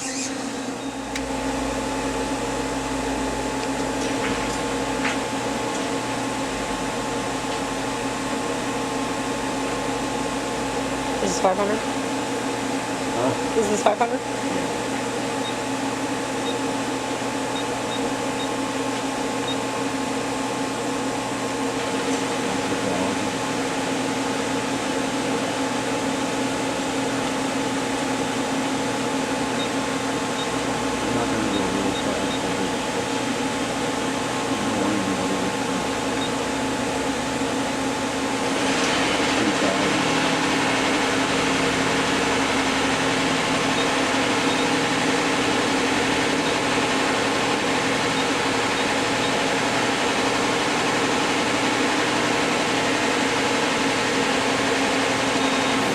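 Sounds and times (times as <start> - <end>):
lathe mechanical hum: 0.0 - 55.9.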